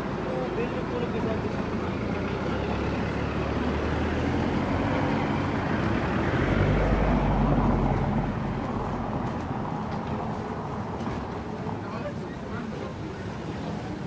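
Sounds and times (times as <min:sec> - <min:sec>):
city traffic noise: 0:00.0 - 0:14.0
vehicle engine hum: 0:00.0 - 0:14.0.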